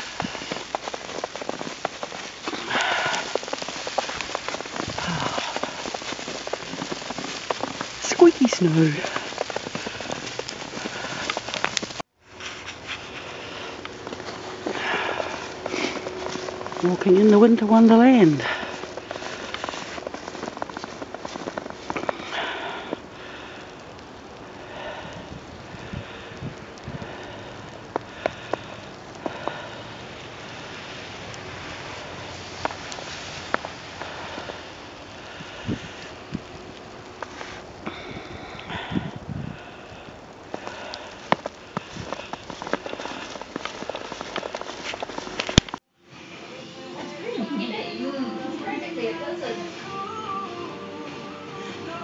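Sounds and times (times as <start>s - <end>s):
soft breath: 0.0s - 16.8s, 18.3s - 32.1s, 32.7s - 36.3s, 37.2s - 46.7s
patter of small ticks: 0.0s - 45.8s
footsteps crunching in snow: 0.0s - 46.4s.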